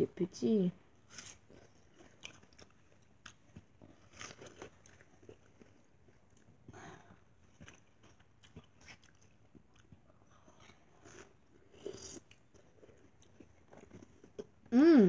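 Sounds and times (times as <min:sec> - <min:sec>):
chewing watermelon: 0:01.0 - 0:14.7.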